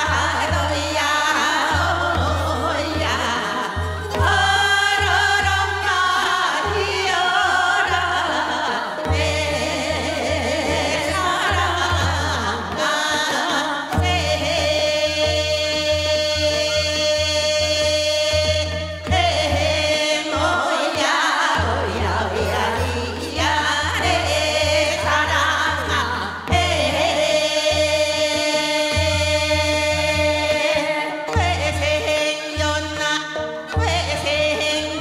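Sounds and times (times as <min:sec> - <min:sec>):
low rhythmic accompaniment: 0:00.0 - 0:35.0
woman singing folk song: 0:00.0 - 0:35.0.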